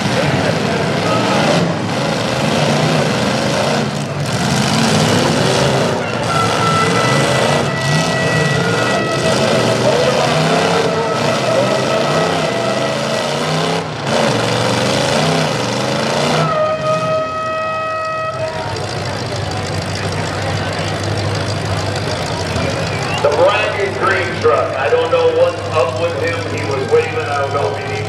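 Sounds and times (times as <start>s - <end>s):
loud arena din: 0.0s - 28.0s
truck engines revving: 0.0s - 28.0s.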